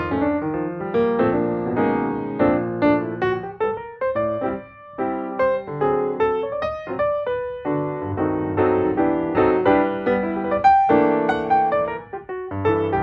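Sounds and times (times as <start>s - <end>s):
solo piano melody with chords: 0.0s - 13.0s.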